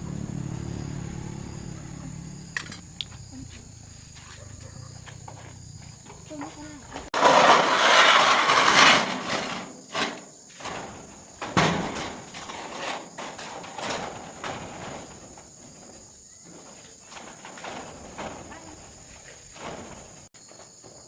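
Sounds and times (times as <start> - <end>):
knocks and clatters: 0.0 - 21.0.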